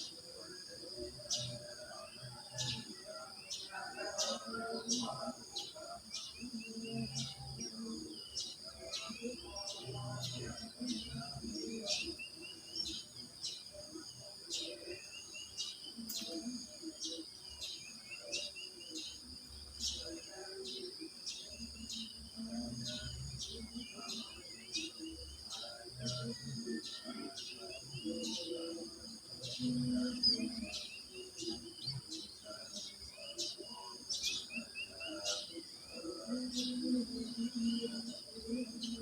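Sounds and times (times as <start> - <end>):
crickets droning: 0.0 - 39.0.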